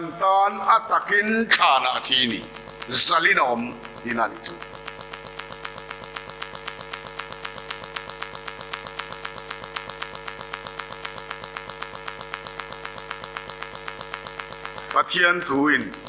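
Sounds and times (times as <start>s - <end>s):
electrical hum and buzz: 0.0s - 16.0s
fast even clicking: 1.5s - 16.0s.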